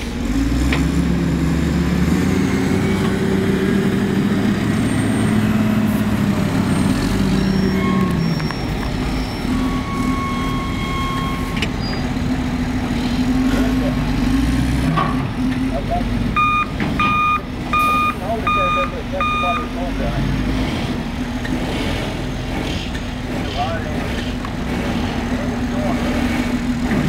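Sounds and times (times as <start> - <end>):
heavy diesel truck engines: 0.0 - 27.0.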